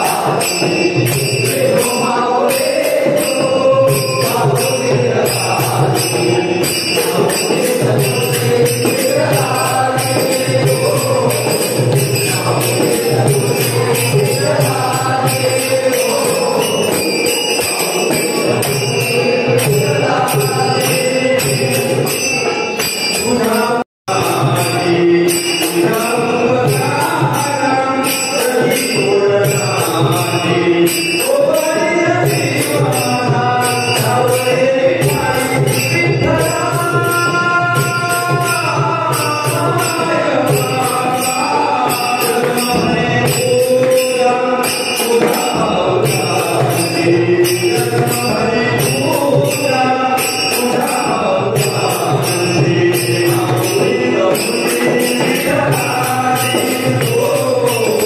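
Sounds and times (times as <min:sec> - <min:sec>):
jingling metallic percussion: 0:00.0 - 0:58.0
man singing devotional song: 0:00.0 - 0:58.0.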